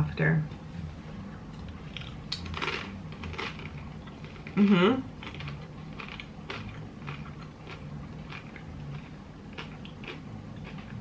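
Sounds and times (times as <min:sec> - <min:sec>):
chewing food close-up: 0:01.6 - 0:11.0.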